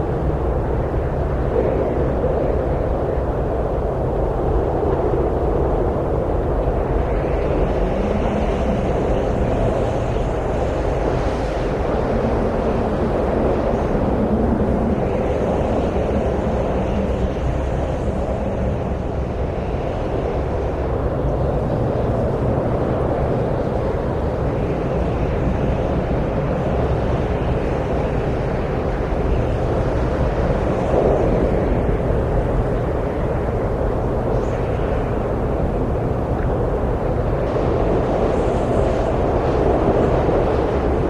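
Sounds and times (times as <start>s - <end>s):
wind blowing: 0.0s - 41.0s.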